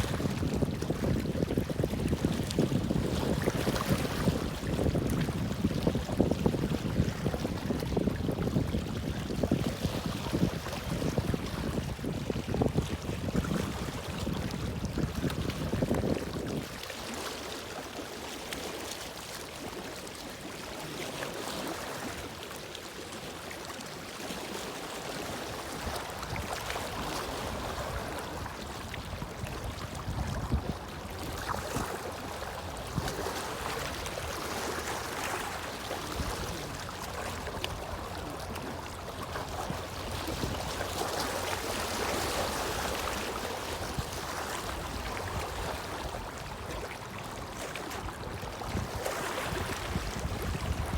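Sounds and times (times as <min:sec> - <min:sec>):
wind buffeting microphone: 0:00.0 - 0:16.8, 0:25.7 - 0:50.9
water lapping against shore: 0:00.0 - 0:50.9.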